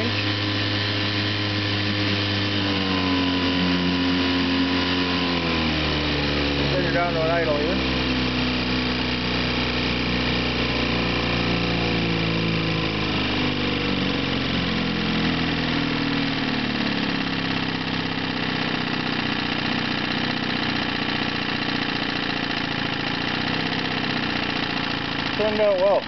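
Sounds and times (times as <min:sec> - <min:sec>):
outboard motor throttling back: 0:00.0 - 0:26.0.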